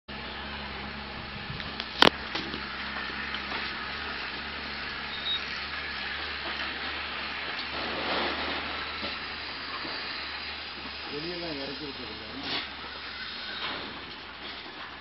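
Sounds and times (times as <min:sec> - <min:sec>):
outdoor background hiss: 0:00.1 - 0:15.0.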